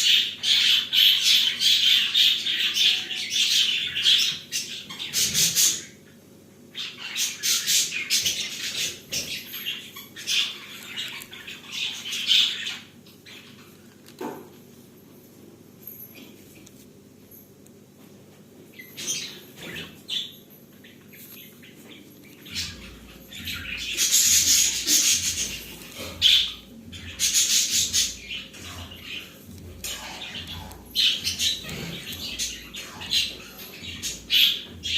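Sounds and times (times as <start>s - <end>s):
budgerigars chirping and chattering: 0.0s - 6.2s, 6.8s - 13.8s, 18.8s - 34.9s.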